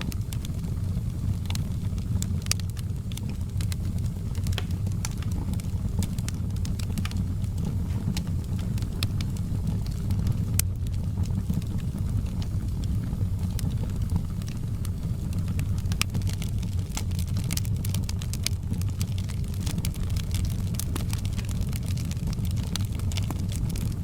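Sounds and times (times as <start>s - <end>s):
fire crackling and popping: 0.0s - 24.0s
fire roaring in fireplace: 0.0s - 24.0s.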